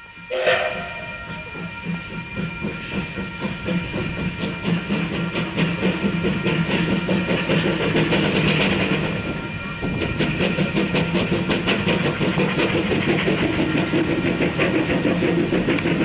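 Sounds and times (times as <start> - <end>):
steam train exhaust beats: 0.0 - 16.0
train wheel clatter: 0.1 - 16.0.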